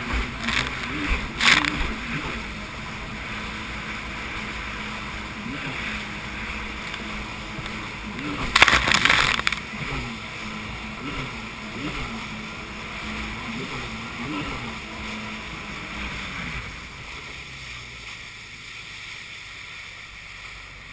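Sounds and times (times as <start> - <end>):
jet ski engine idling: 0.0 - 20.9
water noise: 0.0 - 20.9
wind: 0.0 - 20.9.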